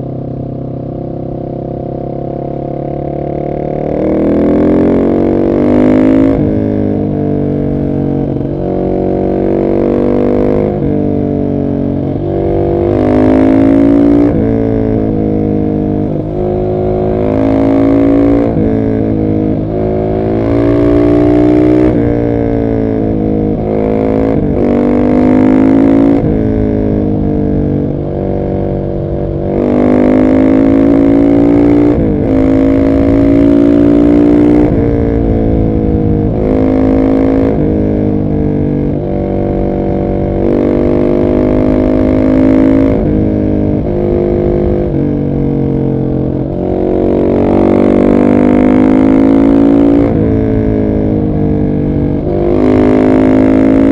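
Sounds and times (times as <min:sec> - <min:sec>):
motorcycle engine accelerating through gears: 0:00.0 - 0:53.9.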